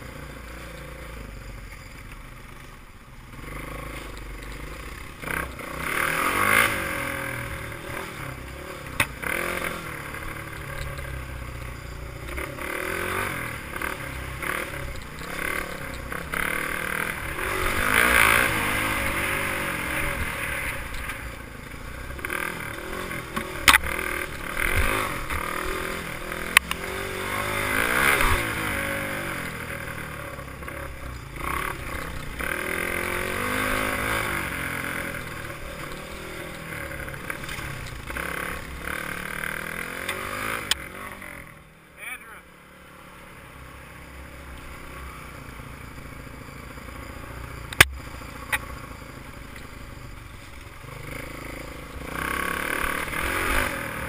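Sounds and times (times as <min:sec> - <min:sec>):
dirt bike engine revving: 0:03.3 - 0:54.0.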